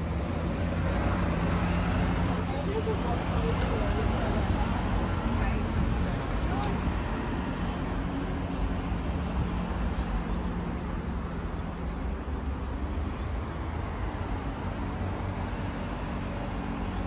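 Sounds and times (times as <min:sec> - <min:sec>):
bus engine hum: 0:00.0 - 0:17.0
road traffic: 0:00.0 - 0:17.0.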